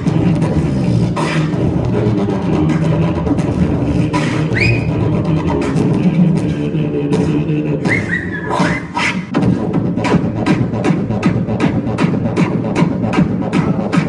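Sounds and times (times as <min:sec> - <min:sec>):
person beatboxing: 0:00.0 - 0:14.0.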